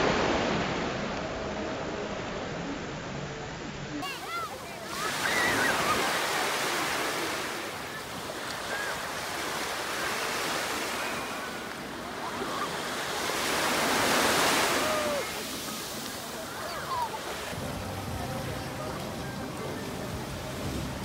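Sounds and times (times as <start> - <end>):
small waves breaking on sand: 0.0 - 1.6, 4.0 - 21.0.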